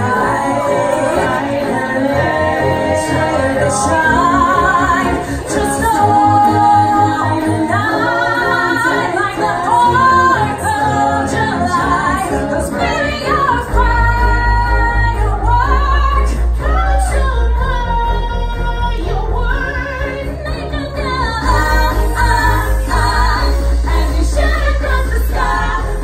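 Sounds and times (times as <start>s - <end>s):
backing track with pulsing bass: 0.0s - 26.0s
women singing pop song: 0.0s - 26.0s.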